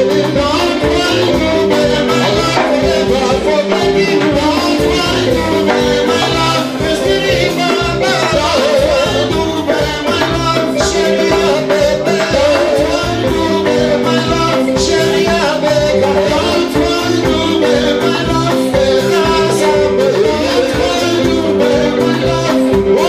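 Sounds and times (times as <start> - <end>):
live band playing dance music: 0.0 - 23.0.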